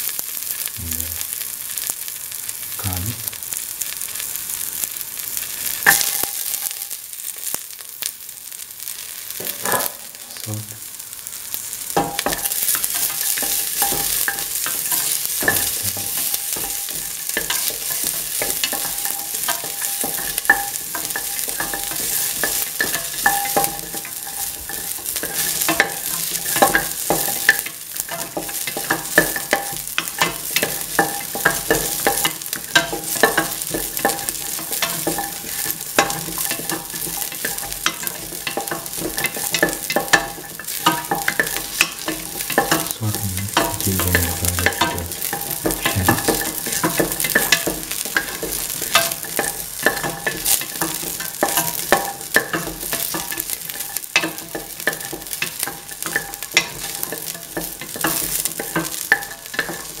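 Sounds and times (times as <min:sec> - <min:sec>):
light sizzle in pan: 0:00.0 - 1:00.0.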